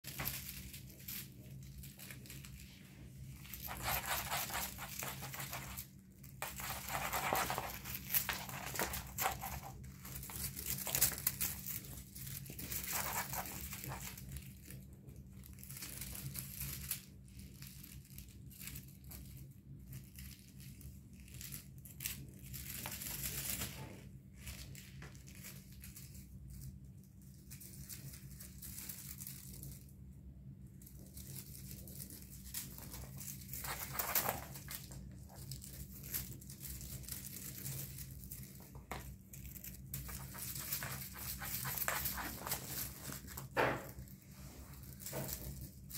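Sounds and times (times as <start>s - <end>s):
kittens scuffling on floor: 0.1s - 17.6s, 19.9s - 30.0s, 30.8s - 45.9s
low steady hum: 0.1s - 45.9s.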